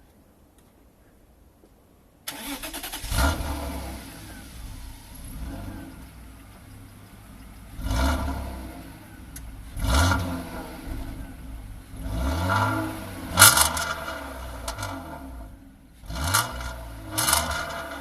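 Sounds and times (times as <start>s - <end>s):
car engine starting and idling: 2.3s - 18.0s.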